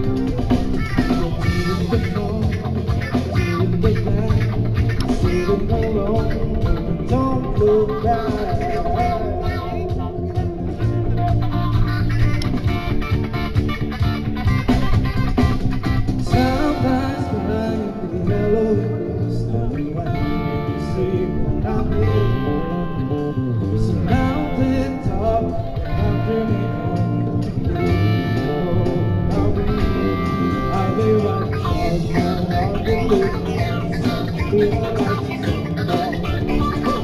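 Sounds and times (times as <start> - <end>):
man singing lead vocal: 0.0 - 12.7, 16.2 - 37.0
drums: 0.0 - 37.0
electric bass: 0.0 - 37.0
guitars: 0.0 - 37.0.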